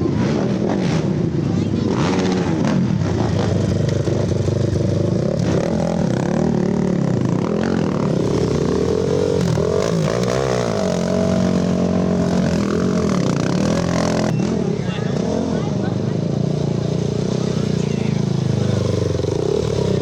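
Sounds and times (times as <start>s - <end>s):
atv engines revving: 0.0s - 20.0s.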